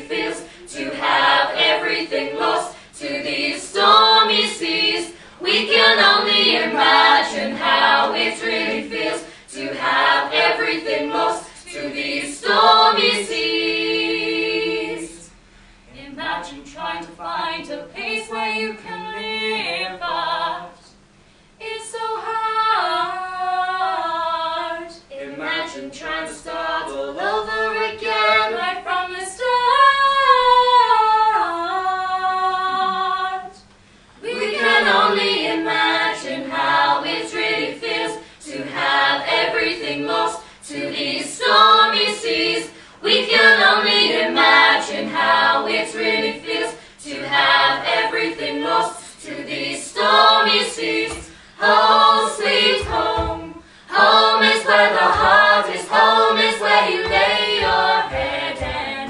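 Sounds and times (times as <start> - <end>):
female voices singing a cappella: 0.0 - 59.0.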